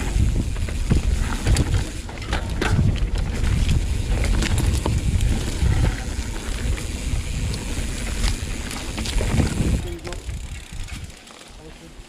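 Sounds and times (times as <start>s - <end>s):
wind rumble on microphone: 0.0s - 11.1s
bike rattling clicks and knocks: 0.0s - 11.9s.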